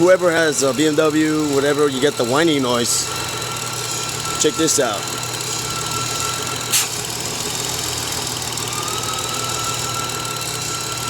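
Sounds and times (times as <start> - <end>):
car engine idling: 0.0 - 11.0
high-pitched whine: 0.0 - 11.0.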